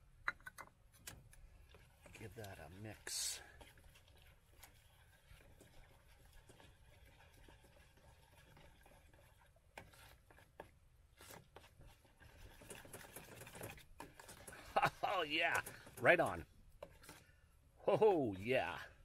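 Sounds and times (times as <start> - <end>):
utensil scraping a steel pot: 1.6 - 17.4.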